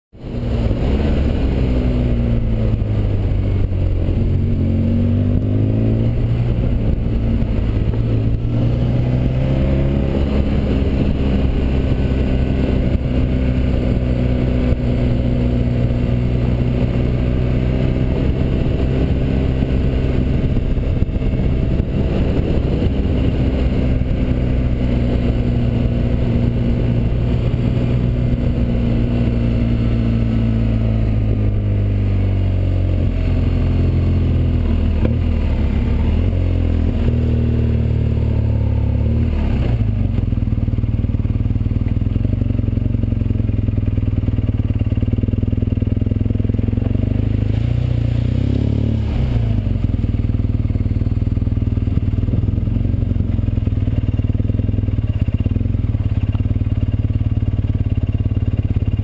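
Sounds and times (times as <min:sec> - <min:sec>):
motorcycle engine running: 0:00.1 - 0:59.0.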